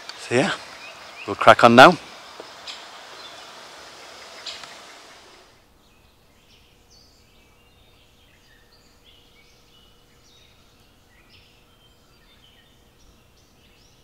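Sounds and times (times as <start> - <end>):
rush of outdoor noise: 0.0 - 14.0
songbirds chirping: 0.0 - 14.0.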